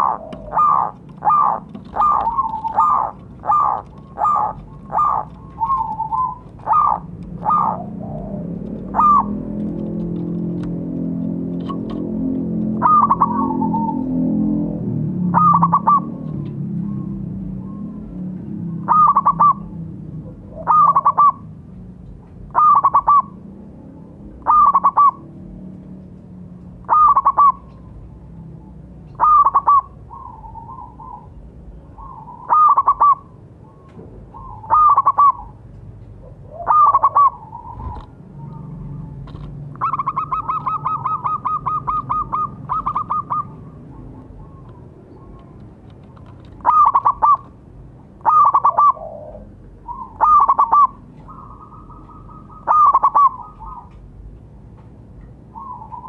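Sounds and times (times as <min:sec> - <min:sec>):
dove cooing: 0:00.0 - 0:21.6, 0:22.4 - 0:23.4, 0:24.4 - 0:25.2, 0:26.8 - 0:47.6, 0:48.2 - 0:54.1, 0:55.5 - 0:56.0.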